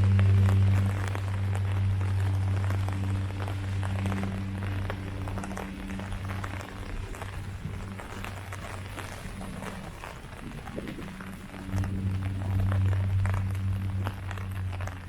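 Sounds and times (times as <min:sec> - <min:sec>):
low hum with overtones: 0:00.0 - 0:15.0
rain falling on leaves: 0:00.0 - 0:15.0.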